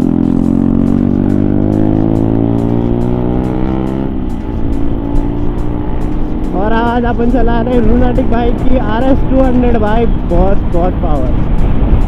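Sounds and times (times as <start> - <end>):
motorcycle engine accelerating: 0.0 - 12.0
music beat: 0.0 - 12.0.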